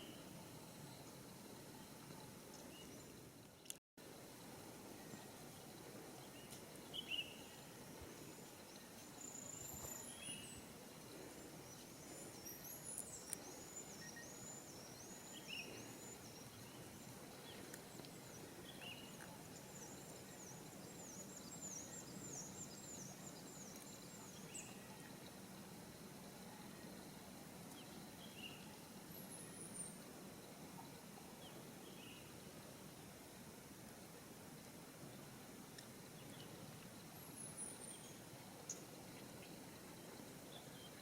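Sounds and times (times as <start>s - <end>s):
low outdoor background noise: 0.0s - 41.0s.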